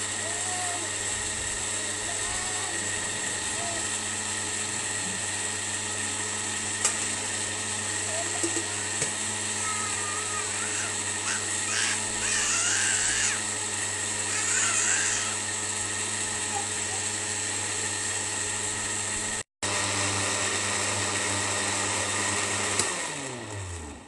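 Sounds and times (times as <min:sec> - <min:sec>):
blender motor running: 0:00.0 - 0:24.0.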